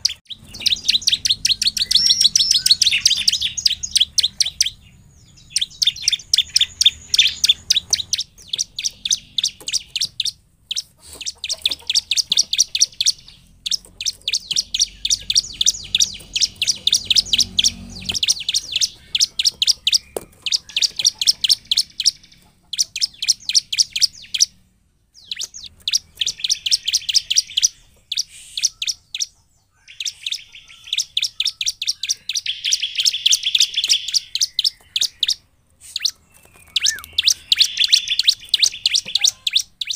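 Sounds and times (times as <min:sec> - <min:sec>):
bird singing sharp chip notes: 0:00.0 - 0:39.9.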